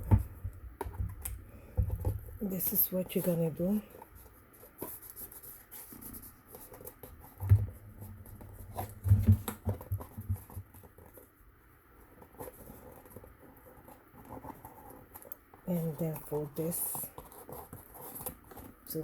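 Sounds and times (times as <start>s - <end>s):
cardboard rustling and clicking: 3.0s - 11.4s, 12.0s - 19.0s.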